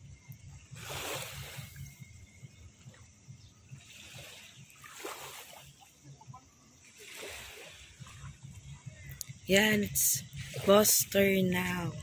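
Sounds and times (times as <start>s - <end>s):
small waves splashing: 0.2s - 12.0s.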